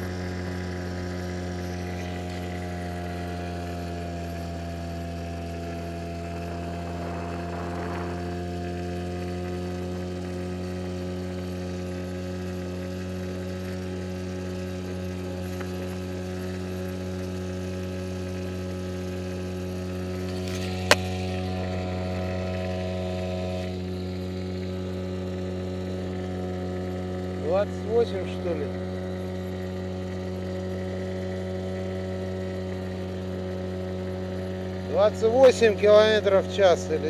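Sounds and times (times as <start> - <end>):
outboard motor droning: 0.0 - 37.0.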